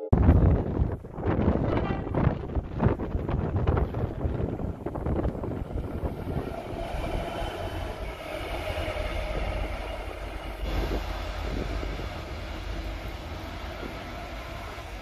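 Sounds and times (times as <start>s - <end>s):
diesel locomotive engine drone: 0.2s - 15.0s.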